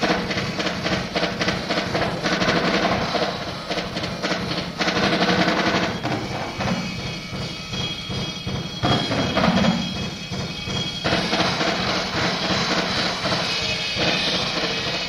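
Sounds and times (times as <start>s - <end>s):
drum solo: 0.0s - 15.0s.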